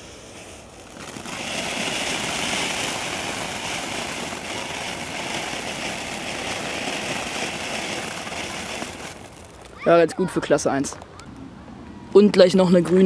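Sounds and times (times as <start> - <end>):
firework fountain hissing: 0.0 - 10.6.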